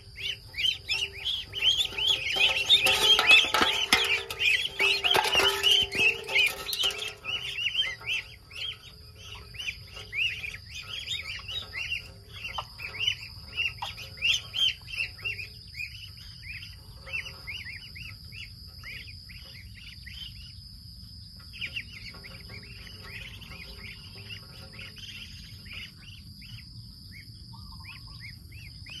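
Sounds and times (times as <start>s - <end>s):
ducklings peeping: 0.0s - 29.0s.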